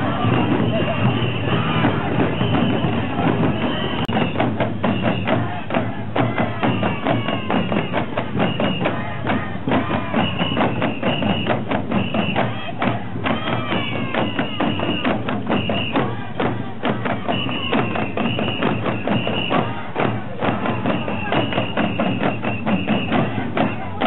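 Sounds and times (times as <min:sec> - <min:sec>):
bamboo flute high notes: 0:00.0 - 0:05.6, 0:06.5 - 0:16.3, 0:17.1 - 0:24.0
rapid fan drum beating: 0:00.0 - 0:24.0.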